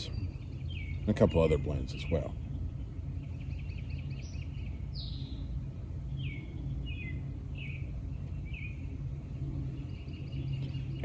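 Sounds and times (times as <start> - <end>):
birds chirping: 0.0 - 11.0
high bird trill: 0.0 - 11.0
low outdoor rumble: 0.0 - 11.0.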